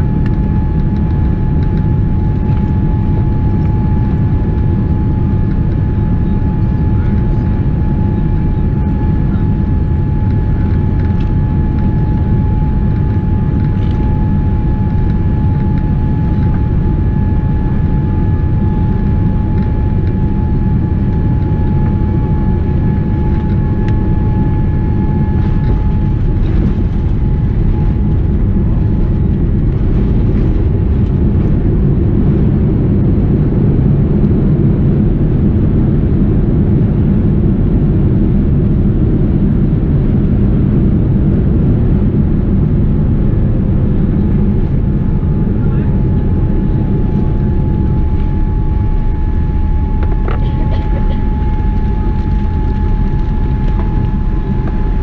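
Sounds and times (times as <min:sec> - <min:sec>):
aircraft engines and airflow rush: 0:00.0 - 0:55.0.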